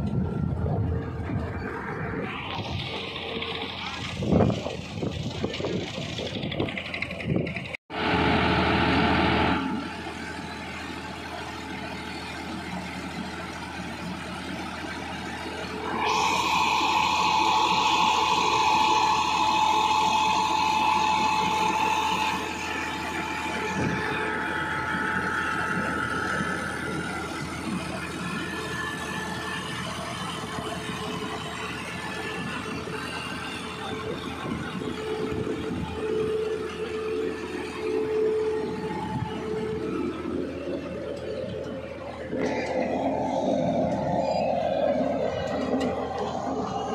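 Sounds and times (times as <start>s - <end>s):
steady whine: 0.0s - 46.9s
tractor diesel engine running: 0.0s - 46.9s.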